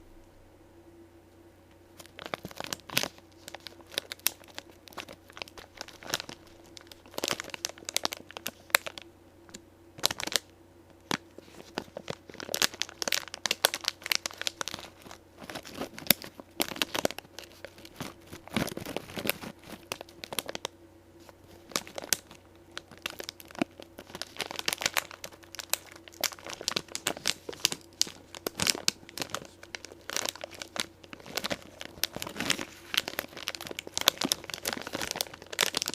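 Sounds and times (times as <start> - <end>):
faint steady hum: 0.0 - 35.9
plastic snack packet crinkling: 2.0 - 35.9.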